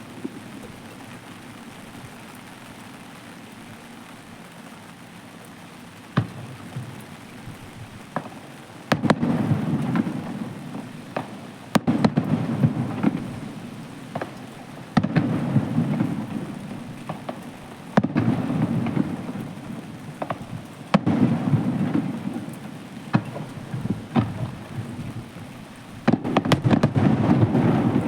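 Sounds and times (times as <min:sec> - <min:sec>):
fireworks booming: 0:00.0 - 0:01.5, 0:06.1 - 0:28.0
small firework cracks: 0:00.0 - 0:28.0.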